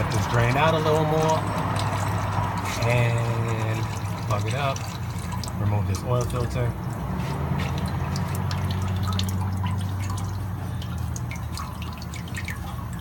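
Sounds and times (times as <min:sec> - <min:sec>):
oil dripping into a drain pan: 0:00.0 - 0:13.0.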